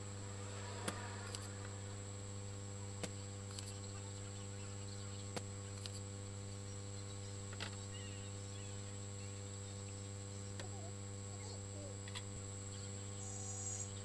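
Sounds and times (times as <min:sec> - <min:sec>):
electrical hum with high whine: 0:00.0 - 0:14.0.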